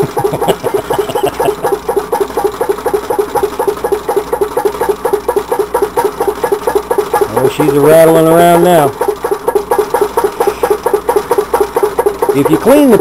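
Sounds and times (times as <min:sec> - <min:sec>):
stirling engine rattling: 0:00.0 - 0:13.0.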